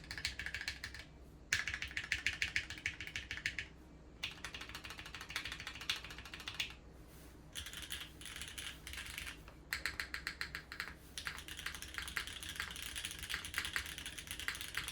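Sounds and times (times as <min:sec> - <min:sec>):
mechanical keyboard typing: 0:00.0 - 0:06.8, 0:07.6 - 0:14.9.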